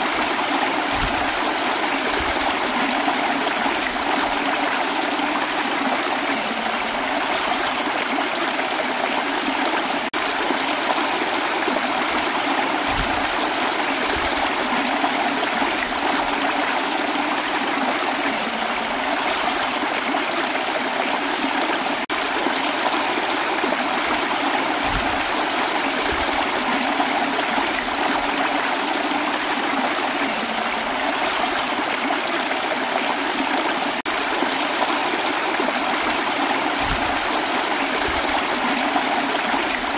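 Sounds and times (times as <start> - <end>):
stream splashing over stones: 0.0 - 39.9.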